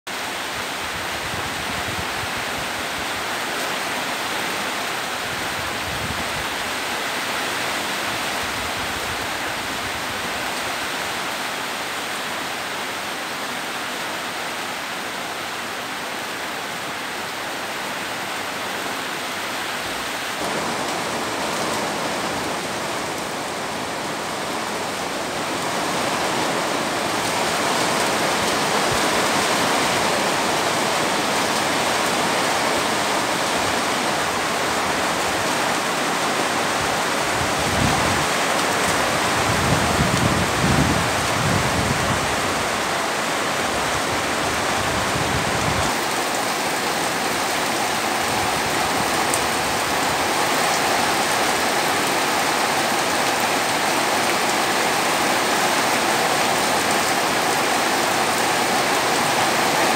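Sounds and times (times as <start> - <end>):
pouring rain: 0.0 - 59.9
gusting wind: 0.3 - 11.2, 16.8 - 59.9.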